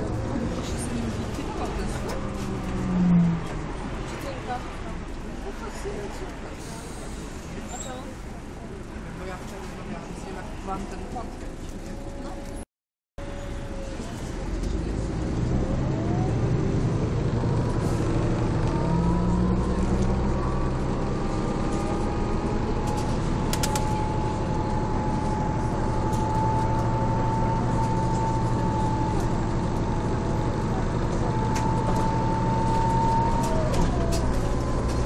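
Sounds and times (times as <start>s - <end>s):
bus engine accelerating: 0.0s - 12.6s, 13.2s - 35.0s.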